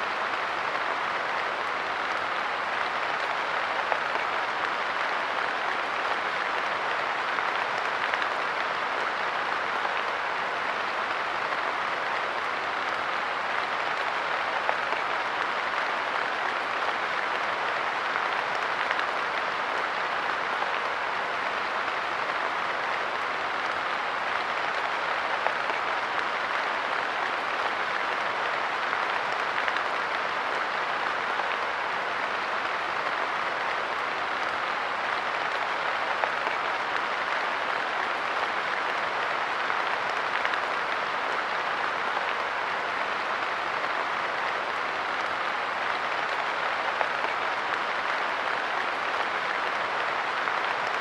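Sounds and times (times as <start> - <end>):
rain pattering on wooden bench: 0.1 - 51.0.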